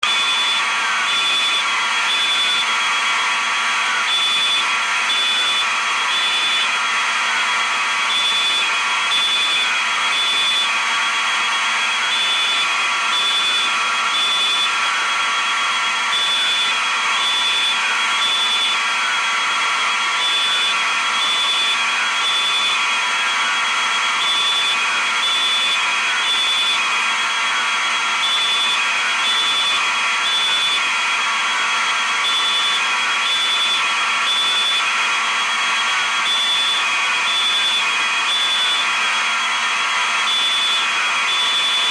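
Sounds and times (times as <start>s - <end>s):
fire alarm beeping: 0.0s - 3.1s, 4.0s - 6.8s, 8.1s - 41.9s
falling alarm sweeps: 0.0s - 3.2s, 4.0s - 6.8s, 8.0s - 31.0s, 32.1s - 41.9s.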